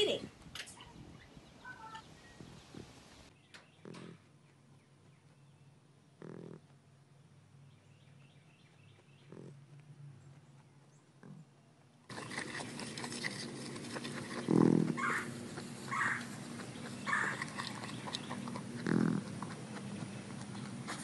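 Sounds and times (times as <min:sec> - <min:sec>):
animals sniffing and eating: 0:00.0 - 0:21.0.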